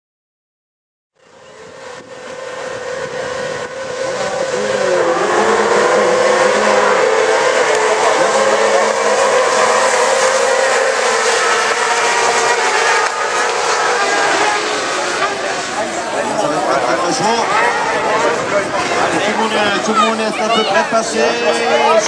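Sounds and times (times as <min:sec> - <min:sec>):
kart engines at full throttle: 0:01.2 - 0:22.0.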